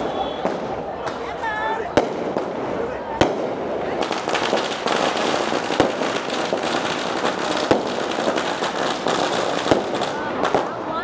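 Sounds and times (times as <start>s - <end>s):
firecracker bangs: 0.0s - 11.0s
firecrackers crackling: 0.0s - 11.0s.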